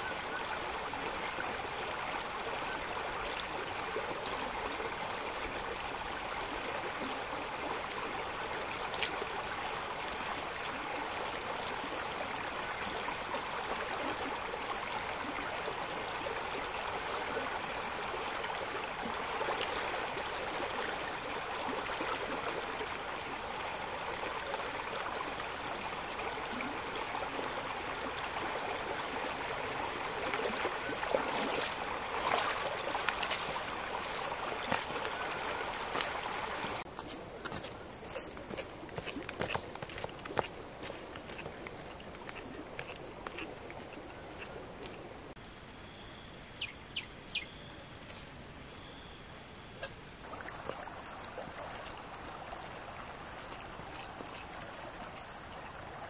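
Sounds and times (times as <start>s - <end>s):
stream water rushing: 0.0s - 45.4s, 49.8s - 56.0s.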